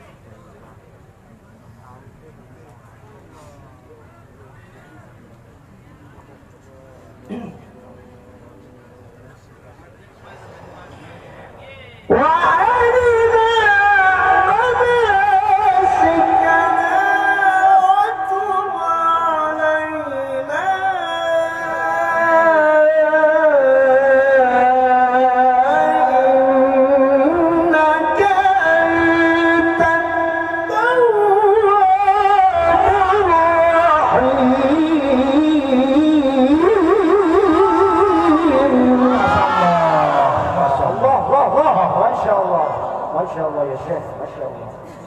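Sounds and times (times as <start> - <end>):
man chanting recitation: 6.8 - 45.0.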